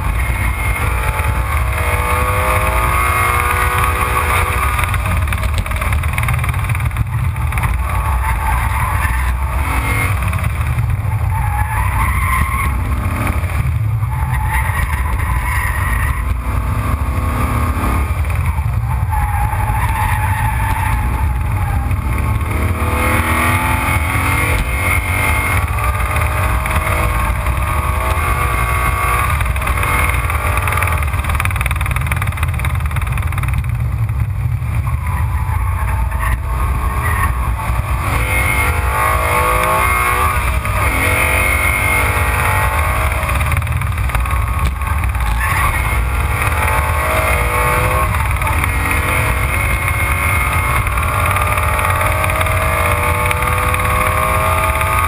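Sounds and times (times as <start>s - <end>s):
race car engine revving: 0.0s - 55.0s
wind and road rumble: 0.0s - 55.0s.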